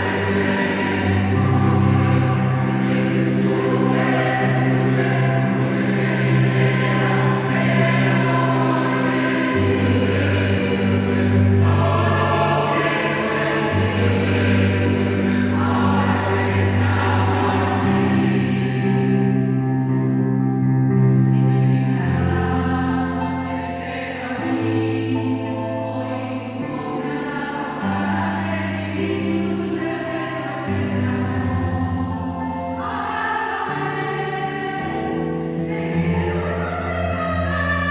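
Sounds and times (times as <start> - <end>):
choir singing held chords: 0.0 - 37.9.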